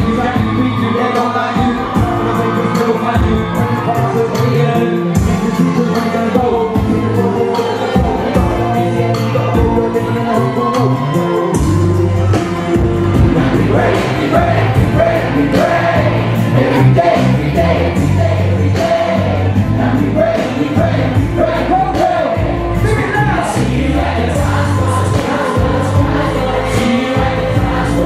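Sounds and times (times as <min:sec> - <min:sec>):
crowd singing along: 0:00.0 - 0:28.0
live pop music: 0:00.0 - 0:28.0.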